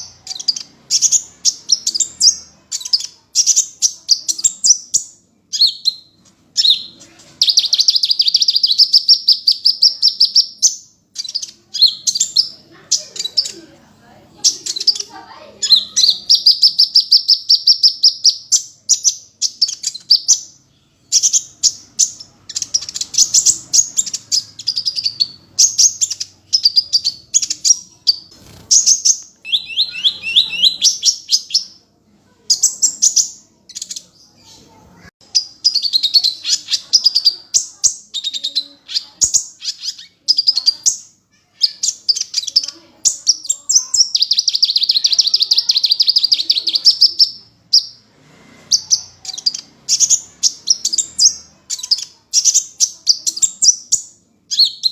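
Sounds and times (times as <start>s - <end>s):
sunbird trilled chirping: 0.0s - 13.6s, 14.4s - 31.8s, 32.5s - 48.0s.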